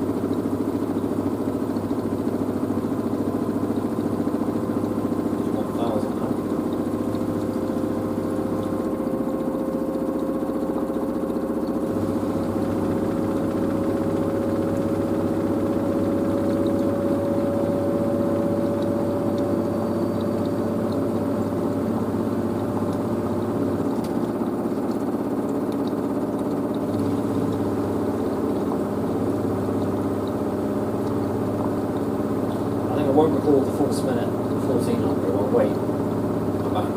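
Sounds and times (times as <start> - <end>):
washer dryer motor whine rising: 0.0 - 36.9.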